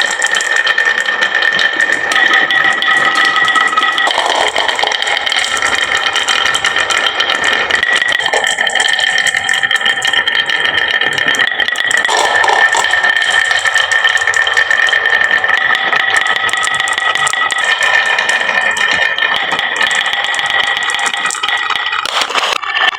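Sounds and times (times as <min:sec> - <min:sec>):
marbles rattling down wooden run: 0:00.0 - 0:22.9.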